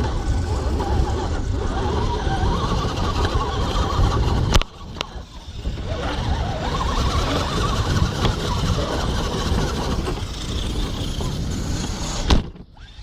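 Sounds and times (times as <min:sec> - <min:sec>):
small vehicle motor running: 0:00.0 - 0:13.0.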